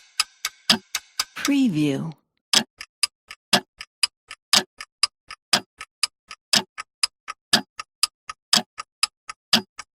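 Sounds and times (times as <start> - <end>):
timer ticking: 0.0 - 10.0.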